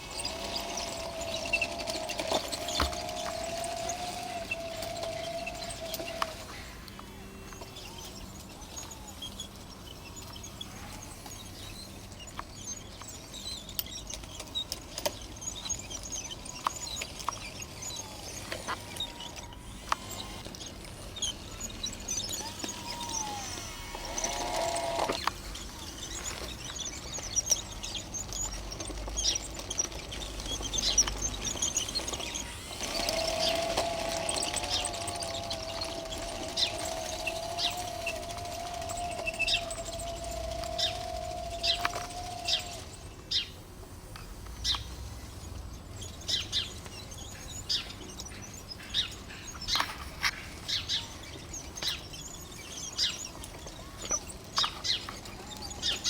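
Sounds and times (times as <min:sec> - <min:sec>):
birds chirping: 0:00.0 - 0:56.0
faint electric motor whine: 0:00.0 - 0:56.0
tracks crunching soil: 0:00.0 - 0:56.0.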